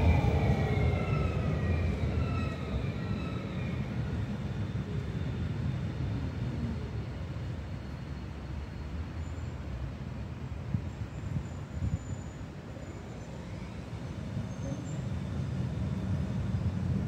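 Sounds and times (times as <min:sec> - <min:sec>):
street traffic: 0:00.0 - 0:17.0
tram rumbling along track: 0:00.0 - 0:17.0.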